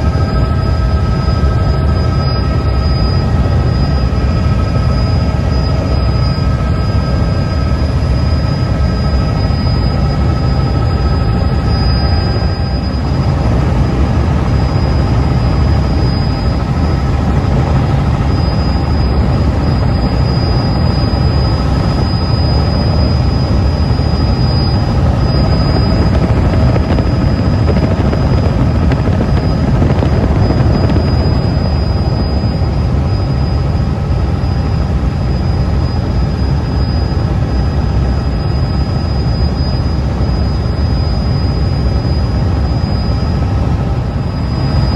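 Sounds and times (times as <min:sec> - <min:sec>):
faint whining tones: 0:00.0 - 0:44.9
helicopter engine and rotor drone: 0:00.0 - 0:44.9.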